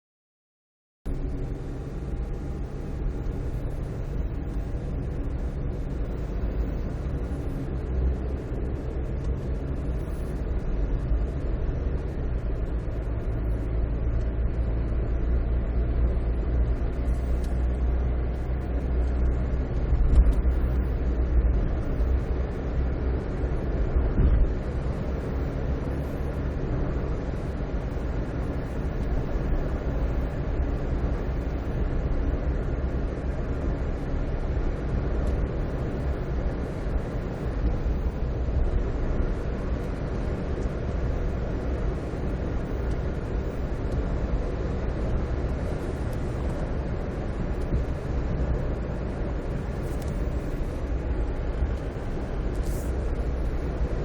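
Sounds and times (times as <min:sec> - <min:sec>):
car driving rumble: 0:01.1 - 0:54.0.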